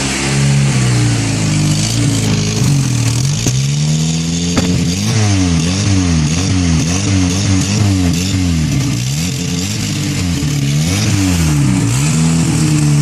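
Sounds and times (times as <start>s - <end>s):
car engine revving: 0.0s - 13.0s
exhaust crack: 0.0s - 13.0s.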